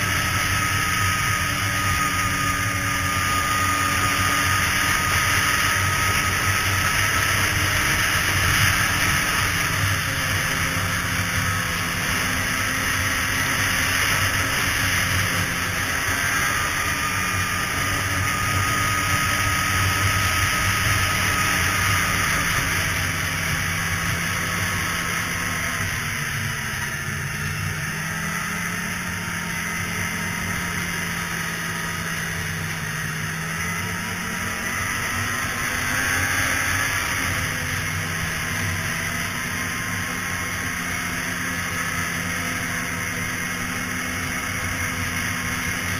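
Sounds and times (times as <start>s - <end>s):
snowmobile engine running: 0.0s - 45.9s.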